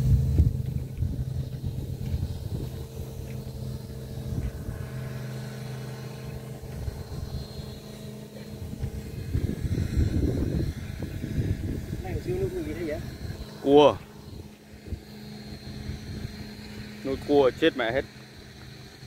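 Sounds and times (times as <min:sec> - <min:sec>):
wind rumble on microphone: 0:00.0 - 0:17.6.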